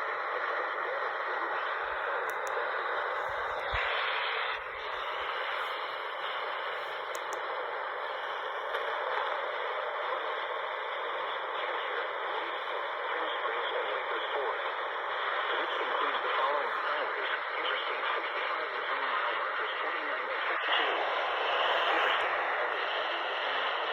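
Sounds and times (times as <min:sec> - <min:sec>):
radio static hiss: 0:00.0 - 0:23.9.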